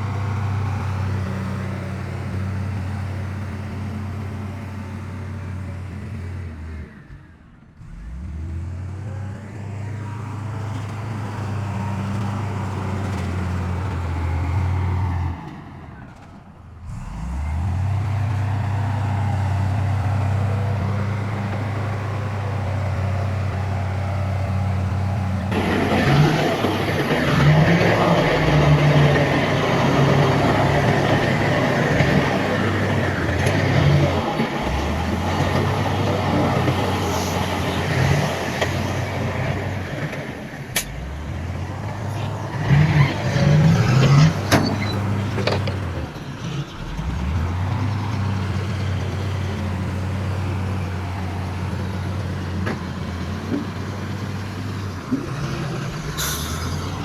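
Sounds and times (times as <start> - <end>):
engine revving: 0.0 - 57.0
heavy diesel engines droning: 0.0 - 57.0
rough engine rumble with clatter: 0.0 - 57.0.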